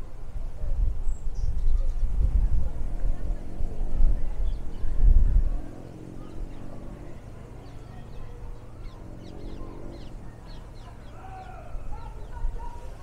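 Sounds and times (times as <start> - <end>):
low background noise: 0.0 - 13.0
small birds chirping: 0.9 - 13.0.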